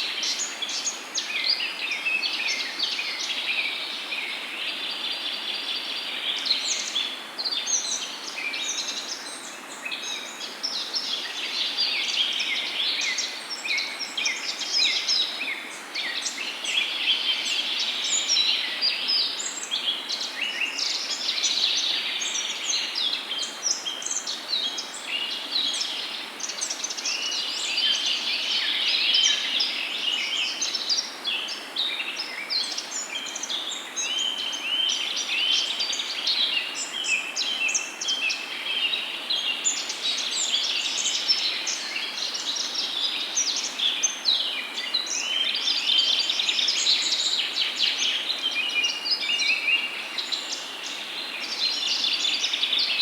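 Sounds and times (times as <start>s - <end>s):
faint steady hiss: 0.0s - 53.0s
songbirds chirping and trilling: 0.0s - 53.0s.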